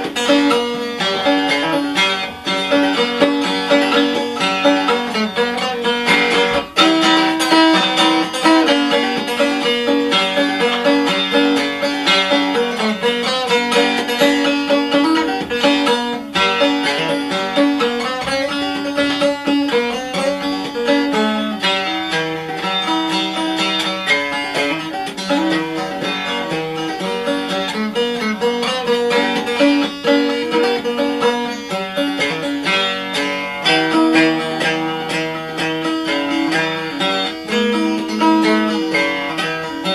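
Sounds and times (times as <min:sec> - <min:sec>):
banjo plucked notes: 0:00.0 - 0:39.9.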